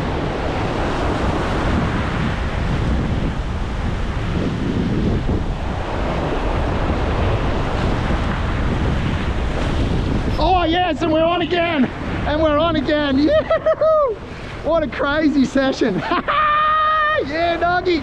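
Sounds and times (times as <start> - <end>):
surf breaking on rocks: 0.0 - 18.0
wind buffeting microphone: 0.0 - 18.0.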